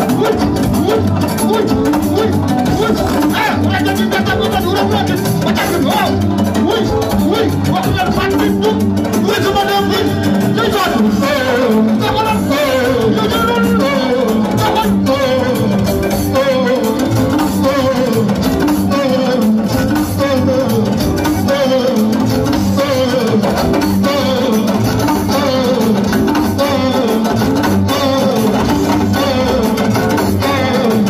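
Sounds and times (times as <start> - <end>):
bass: 0.0 - 31.0
drums: 0.0 - 31.0
person singing: 0.0 - 31.0.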